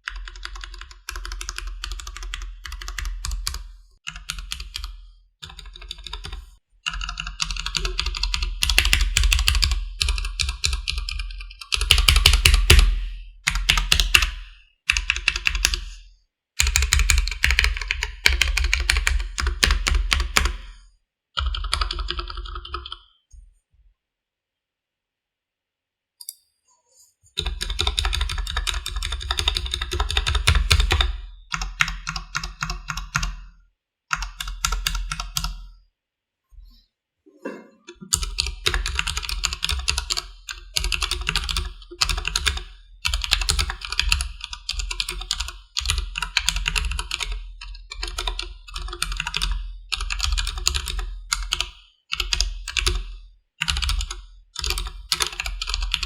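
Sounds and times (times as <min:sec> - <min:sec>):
mechanical keyboard typing: 0:00.0 - 0:12.9, 0:13.5 - 0:15.8, 0:16.6 - 0:20.6, 0:21.4 - 0:23.0, 0:27.4 - 0:33.4, 0:34.1 - 0:35.6, 0:38.0 - 0:53.0, 0:53.6 - 0:56.0.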